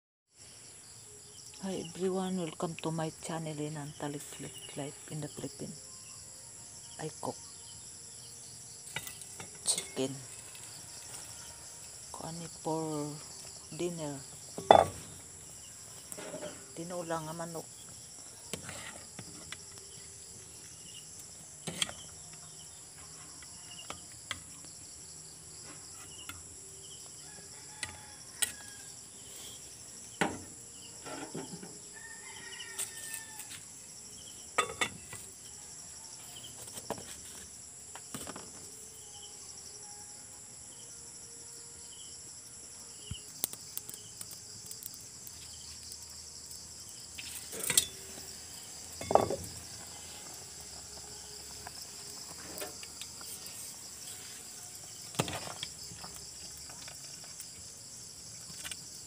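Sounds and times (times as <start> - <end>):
insects chorus: 0.4 - 59.0.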